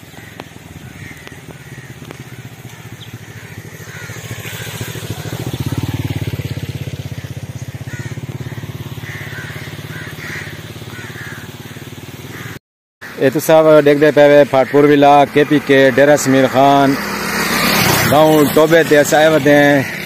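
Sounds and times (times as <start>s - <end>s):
engine running: 0.0s - 12.6s, 13.8s - 20.0s.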